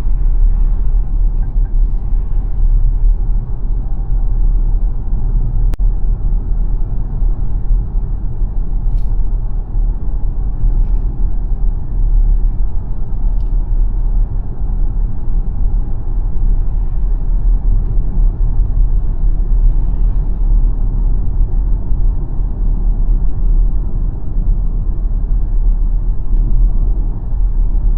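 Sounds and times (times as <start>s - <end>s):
tyre and road noise: 0.0s - 27.9s.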